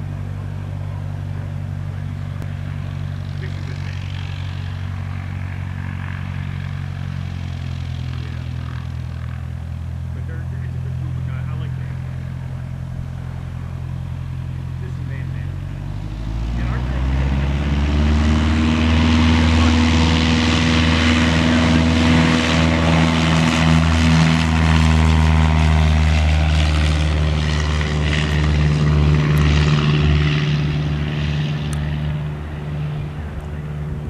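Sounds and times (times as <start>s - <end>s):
propeller plane engine drone: 0.0s - 34.0s.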